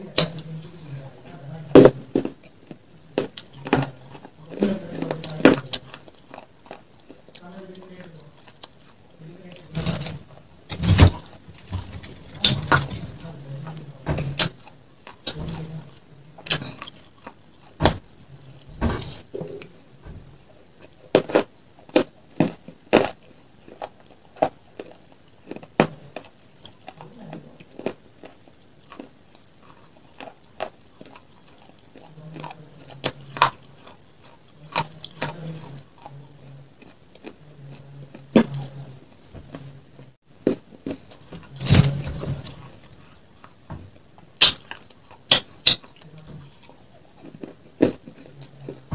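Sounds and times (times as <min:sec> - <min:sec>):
chewing: 0:00.0 - 0:39.7, 0:40.4 - 0:48.9.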